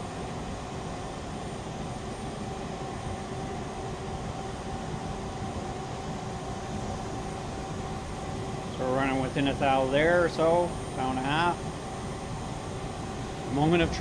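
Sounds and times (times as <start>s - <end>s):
lathe running with whine: 0.0s - 14.0s.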